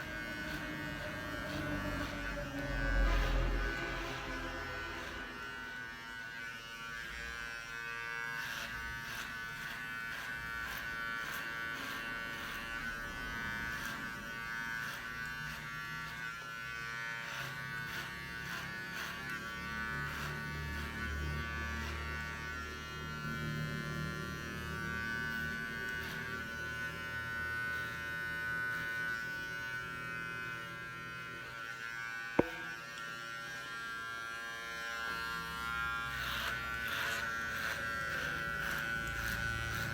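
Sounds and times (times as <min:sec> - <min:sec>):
electric cutting tool whining: 0:00.0 - 0:39.9.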